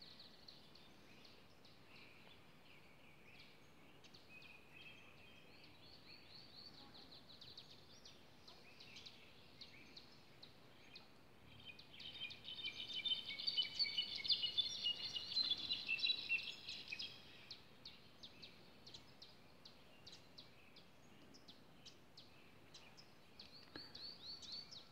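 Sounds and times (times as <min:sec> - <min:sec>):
songbirds chirping and warbling: 0:00.0 - 0:24.9.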